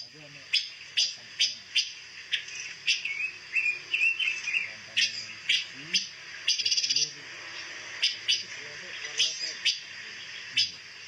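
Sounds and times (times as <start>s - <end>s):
bird warbling phrase: 0.0s - 7.4s, 8.0s - 10.8s
songbird chirping: 0.0s - 11.0s.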